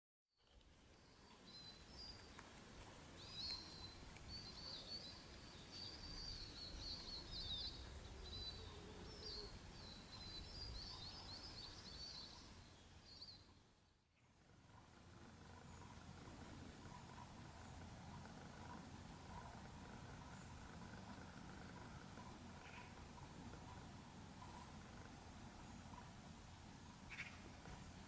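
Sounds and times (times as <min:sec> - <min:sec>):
low outdoor rumble: 0:00.4 - 0:28.0
birds chirping: 0:00.9 - 0:28.0.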